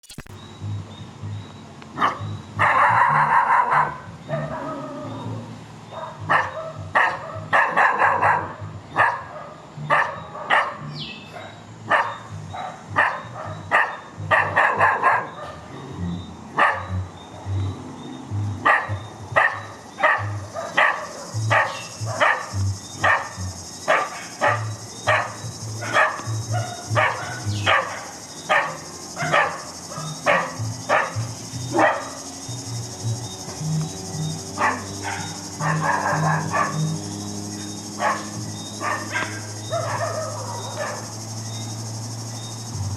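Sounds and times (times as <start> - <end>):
dogs barking: 2.0 - 5.1, 5.9 - 15.7, 16.5 - 17.0, 18.6 - 41.4.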